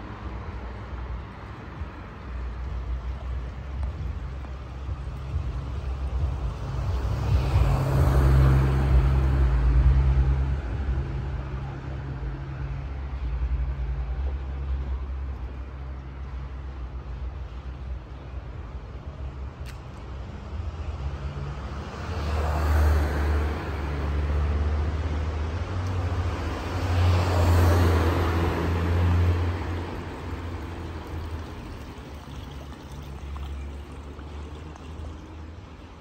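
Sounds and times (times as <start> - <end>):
low traffic hum: 0.0 - 36.0
vehicles passing close by: 0.0 - 36.0.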